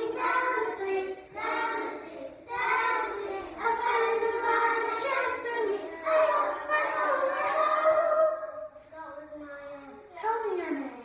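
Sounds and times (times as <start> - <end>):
young children singing: 0.0 - 9.4.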